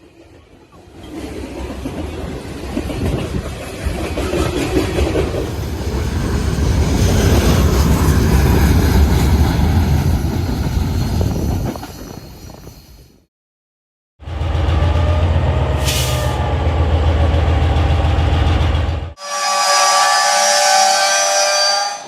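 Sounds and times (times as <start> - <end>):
train passing: 0.0 - 13.3, 14.2 - 22.0.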